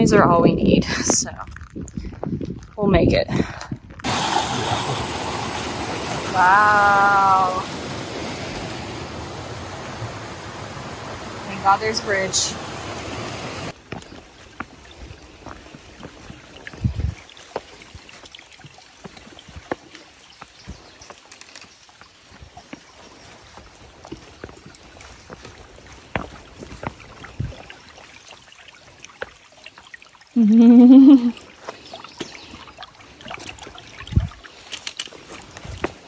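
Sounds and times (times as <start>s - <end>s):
stream trickling and splashing: 0.0s - 36.0s.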